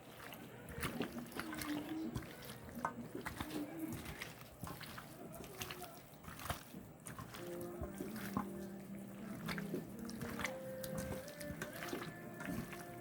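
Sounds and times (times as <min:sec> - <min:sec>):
hands squelching wet marinade: 0:00.0 - 0:13.0.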